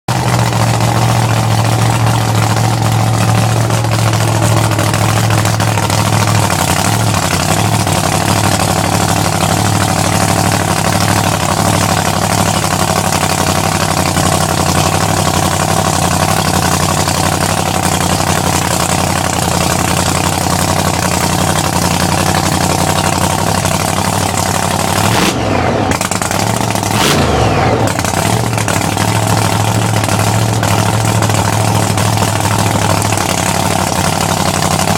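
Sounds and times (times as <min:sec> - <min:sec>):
supercharged engine running: 0:00.1 - 0:34.9.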